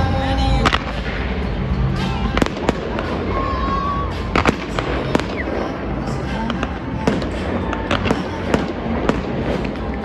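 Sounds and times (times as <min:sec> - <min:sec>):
music: 0:00.0 - 0:10.0
fireworks bursting: 0:00.5 - 0:10.0.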